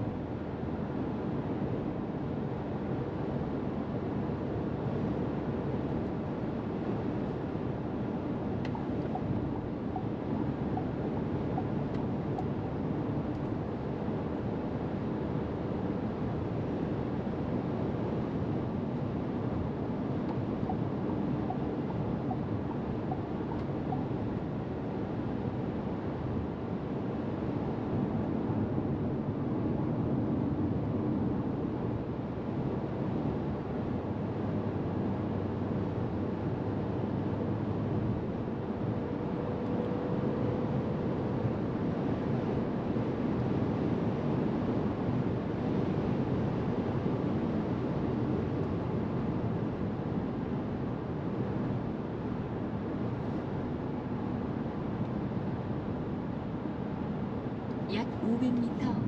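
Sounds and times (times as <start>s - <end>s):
wind and road noise in car: 0.0s - 59.0s.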